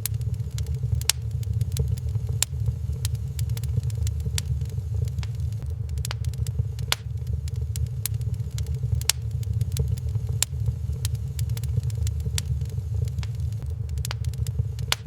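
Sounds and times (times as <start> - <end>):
fire crackling with sharp pops: 0.0 - 15.0
low fire rumble: 0.0 - 15.0.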